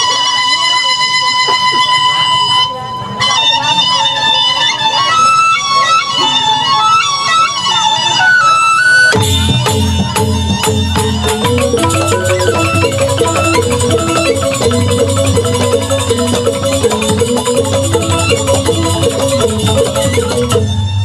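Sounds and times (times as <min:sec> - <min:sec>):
bamboo flutes playing melody: 0:00.0 - 0:21.0
bamboo xylophones interlocking patterns: 0:00.0 - 0:21.0.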